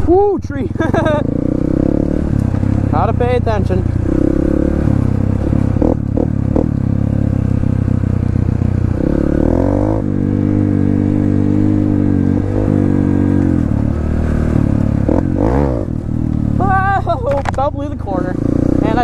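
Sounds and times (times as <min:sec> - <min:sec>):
dirt bike engine revving: 0:00.6 - 0:19.0.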